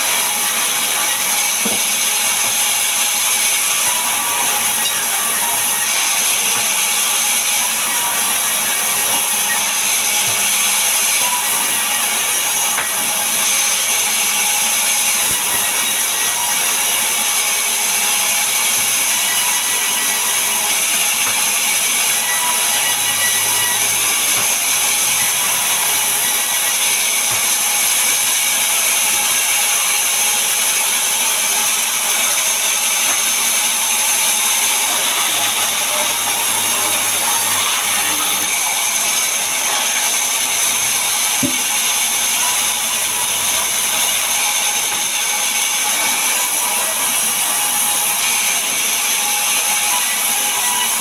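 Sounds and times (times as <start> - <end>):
band saw cutting wood: 0.0 - 51.0.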